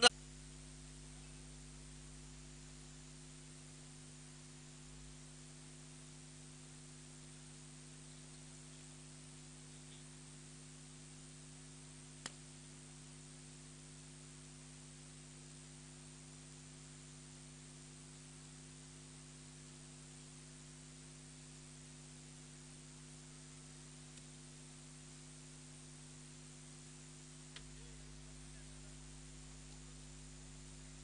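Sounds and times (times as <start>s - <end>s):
electrical hum: 0.0s - 31.0s
steady hiss: 0.0s - 31.0s.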